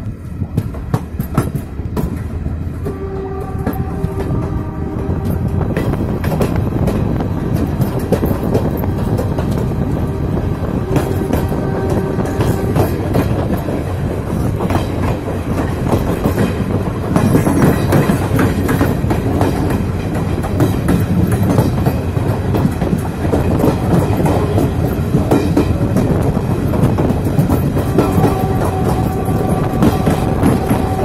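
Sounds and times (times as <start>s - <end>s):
train wheels rolling on track: 0.0s - 31.0s
wheels clickety-clack over rails: 0.0s - 31.0s.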